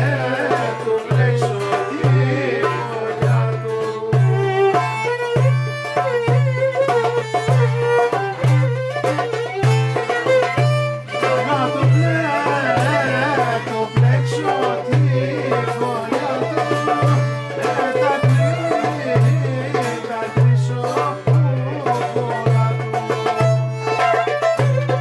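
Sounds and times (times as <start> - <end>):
lute: 0.0 - 25.0
percussion beat: 0.0 - 25.0
violin melody: 0.0 - 25.0.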